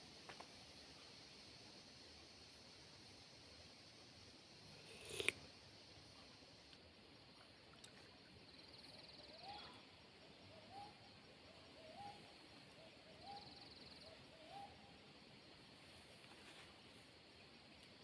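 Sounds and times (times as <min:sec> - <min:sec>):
faint pulsed insect-like buzz: 0:00.0 - 0:18.0.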